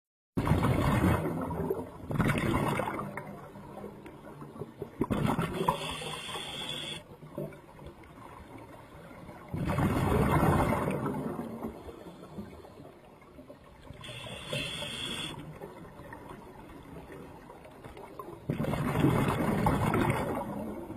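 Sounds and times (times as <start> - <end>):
water gurgling and rushing: 0.4 - 20.9.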